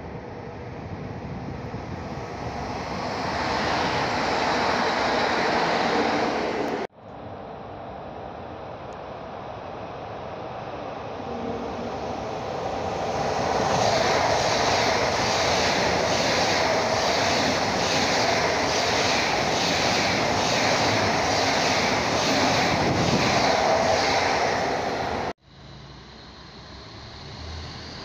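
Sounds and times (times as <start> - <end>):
diesel railcar low rumble: 0.0 - 28.0
high-speed train running past: 0.0 - 28.0.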